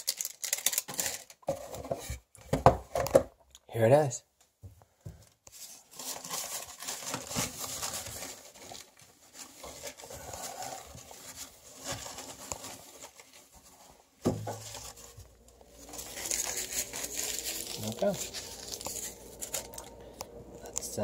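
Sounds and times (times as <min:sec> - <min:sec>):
plastic tray rustling: 0:00.1 - 0:03.1, 0:05.5 - 0:20.0.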